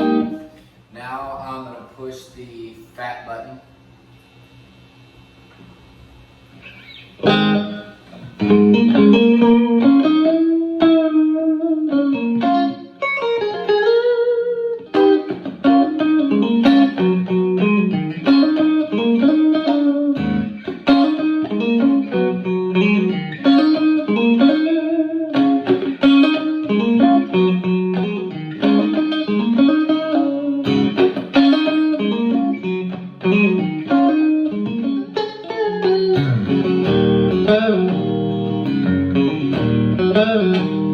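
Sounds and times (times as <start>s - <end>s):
electric guitar lead lines: 0.0s - 1.8s, 5.5s - 40.9s.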